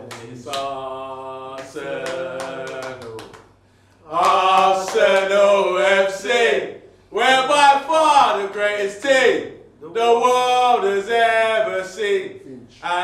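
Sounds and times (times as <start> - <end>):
men chanting: 0.0 - 3.4, 4.0 - 13.0.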